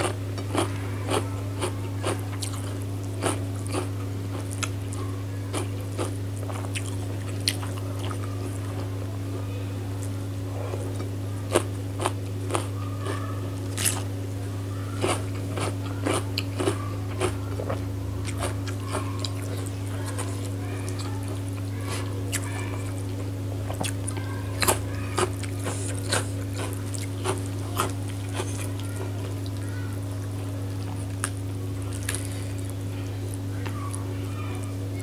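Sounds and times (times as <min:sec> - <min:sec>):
chewing and crunching food: 0:00.0 - 0:35.0
steady low hum: 0:00.0 - 0:35.0.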